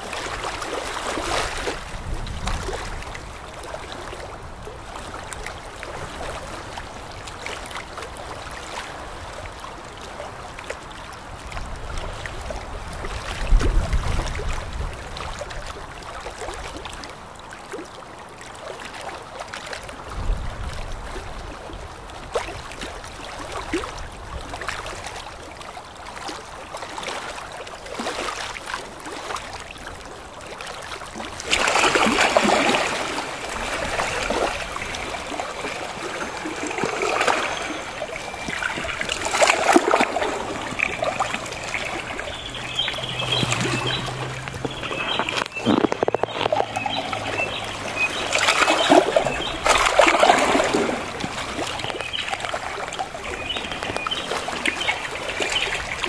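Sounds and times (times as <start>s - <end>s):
small waves lapping: 0.0s - 56.0s.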